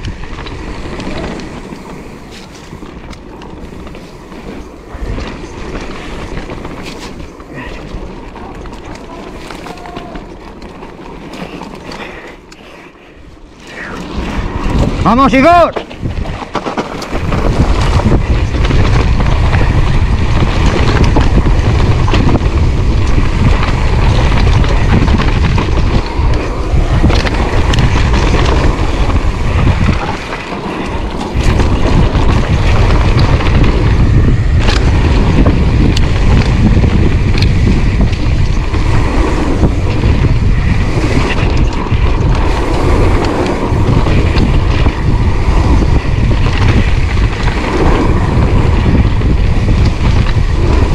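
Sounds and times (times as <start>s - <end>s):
bike rattling over bumps: 0.0s - 50.9s
wind rumbling on microphone: 0.0s - 50.9s.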